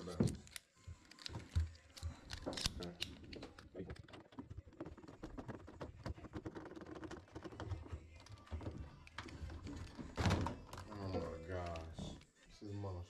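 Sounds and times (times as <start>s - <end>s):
small clicks and rattles of parts: 0.0s - 12.3s.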